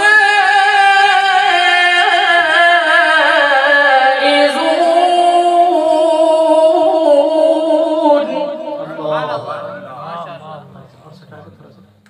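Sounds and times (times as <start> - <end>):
man chanting into a microphone: 0.0 - 11.8.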